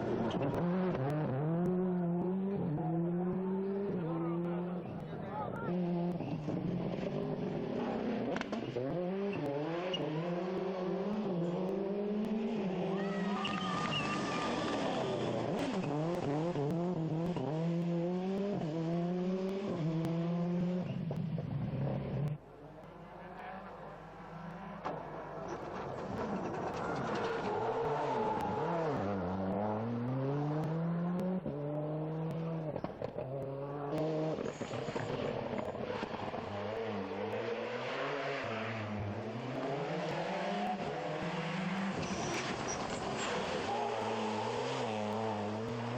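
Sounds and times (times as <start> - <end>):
car braking and downshifting: 0.0 - 45.9
rally car accelerating through gears: 0.0 - 45.9.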